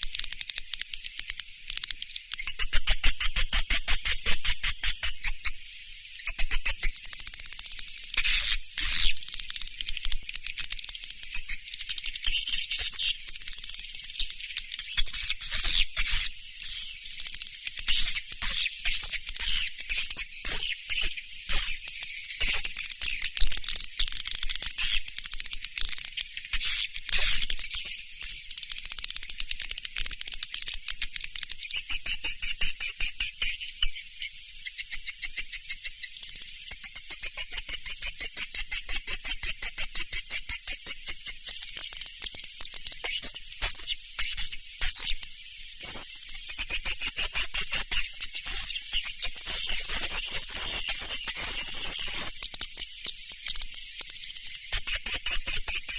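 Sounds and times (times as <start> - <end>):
buzzy bird chirping and trilling: 0.0 - 55.9.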